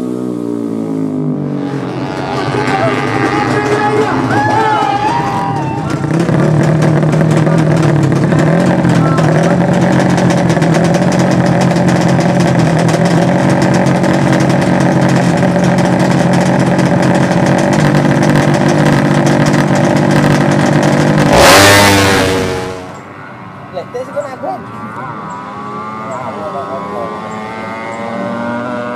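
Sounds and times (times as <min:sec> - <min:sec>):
motorcycle accelerating hard: 0:00.0 - 0:23.1, 0:24.7 - 0:28.9
racing motorcycle engines high revs: 0:00.0 - 0:23.1, 0:24.6 - 0:28.9.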